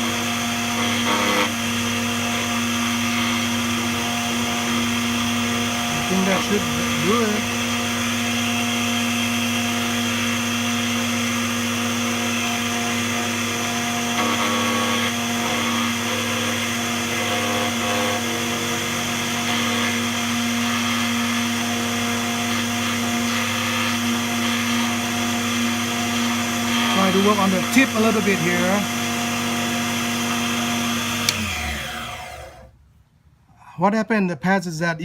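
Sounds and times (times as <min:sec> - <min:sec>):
key cutting machine humming: 0:00.0 - 0:32.6.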